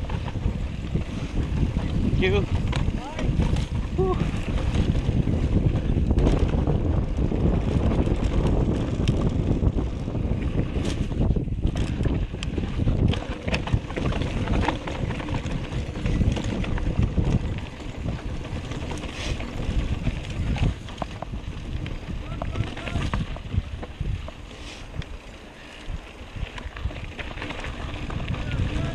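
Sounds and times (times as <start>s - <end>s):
bike clicks and rattles: 0.0s - 28.9s
wind noise on microphone: 0.0s - 28.9s.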